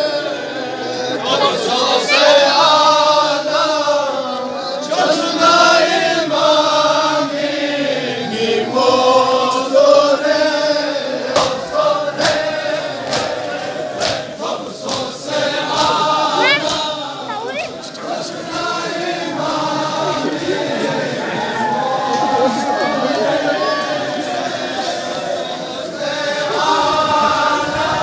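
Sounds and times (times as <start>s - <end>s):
crowd of men chanting: 0.0s - 28.0s.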